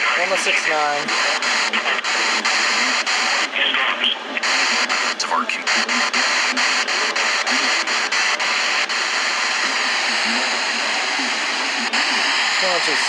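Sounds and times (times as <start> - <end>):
faint radio speech: 0.0 - 13.0
radio static hiss: 0.0 - 13.0.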